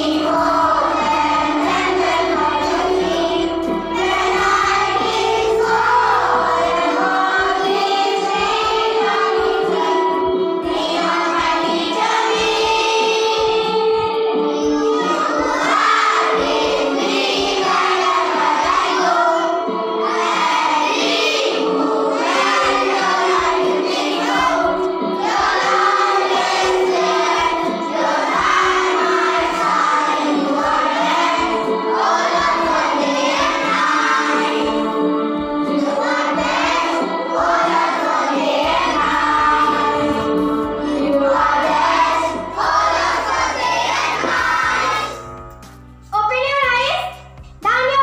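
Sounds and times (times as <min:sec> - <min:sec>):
children singing into a microphone: 0:00.0 - 0:45.4.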